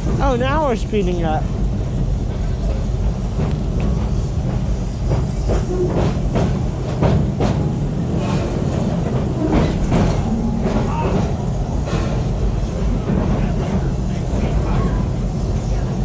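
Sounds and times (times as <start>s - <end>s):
train rumbling on track: 0.0s - 16.0s
wheels clacking over rails: 0.0s - 16.0s.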